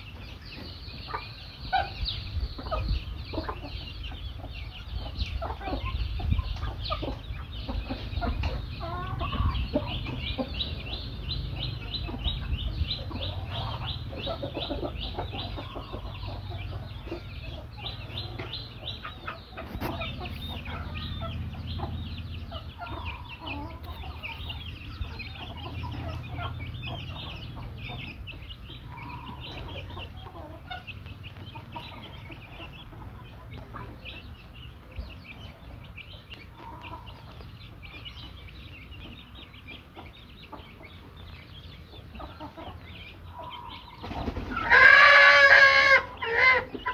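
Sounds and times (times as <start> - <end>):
chickens clucking softly: 0.0 - 46.9.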